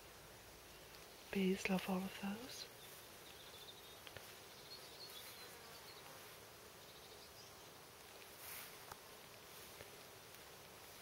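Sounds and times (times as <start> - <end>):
bees buzzing faintly: 0.0 - 11.0.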